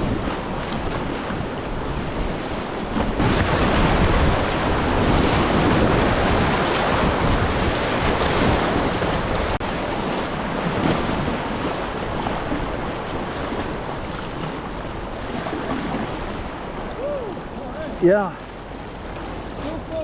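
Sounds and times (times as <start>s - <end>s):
whitewater rushing and splashing: 0.0s - 20.0s
wind buffeting microphone: 0.0s - 20.0s.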